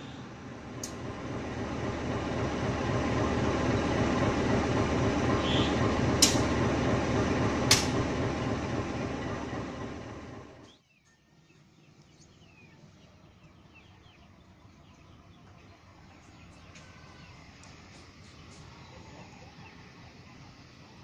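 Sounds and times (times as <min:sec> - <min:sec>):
diesel locomotive running: 0:00.0 - 0:11.7, 0:12.3 - 0:21.0.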